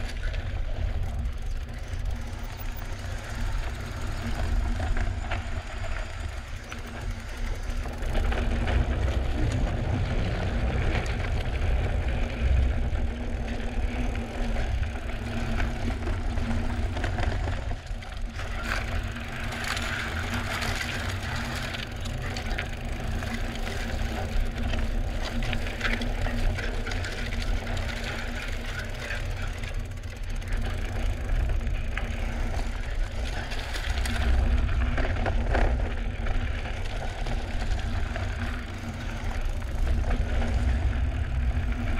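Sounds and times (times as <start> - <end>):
low rumble: 0.0 - 28.5, 30.4 - 41.9
bike parts rattling: 0.0 - 41.9.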